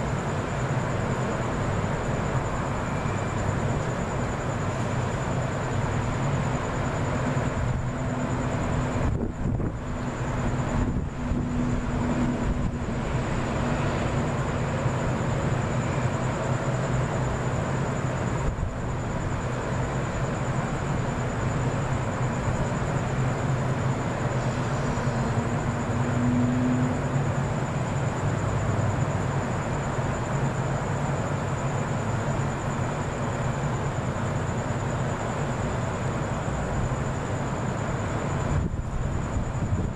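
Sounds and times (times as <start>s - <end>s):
faint high-pitched whine: 0.0s - 39.9s
low rumbling background noise: 0.0s - 39.9s.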